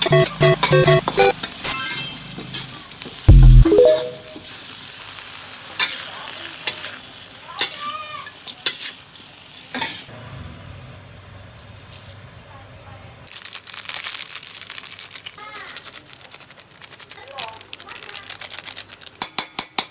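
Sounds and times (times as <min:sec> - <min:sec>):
food frying in a pan: 0:00.3 - 0:03.3, 0:04.2 - 0:12.5, 0:13.2 - 0:19.9.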